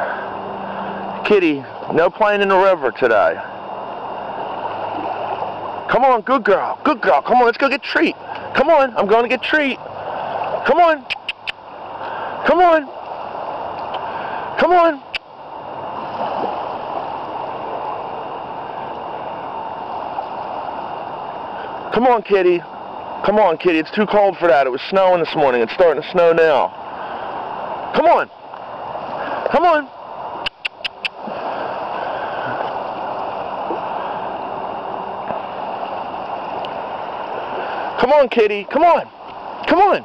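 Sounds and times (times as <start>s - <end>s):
river water rushing: 0.0s - 40.0s.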